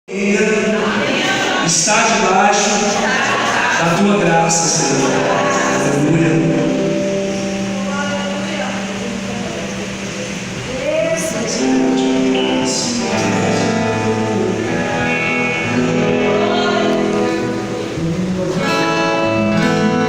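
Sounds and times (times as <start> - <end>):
guitar: 0.1 - 20.0
live worship band playing: 0.1 - 20.0.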